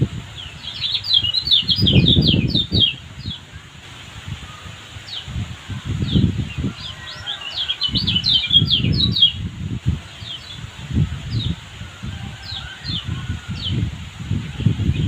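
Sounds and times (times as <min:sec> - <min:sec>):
songbird chirping: 0:00.0 - 0:03.7, 0:04.3 - 0:13.9.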